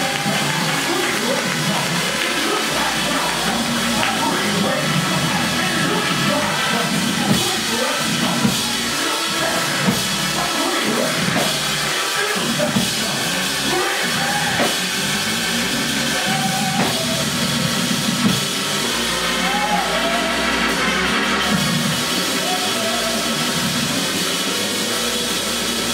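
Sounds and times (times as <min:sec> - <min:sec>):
gospel band music: 0:00.0 - 0:25.9.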